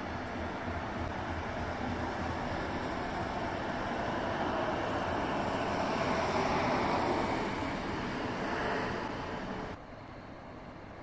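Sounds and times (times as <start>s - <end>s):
train wheels on rails: 0.0s - 10.2s.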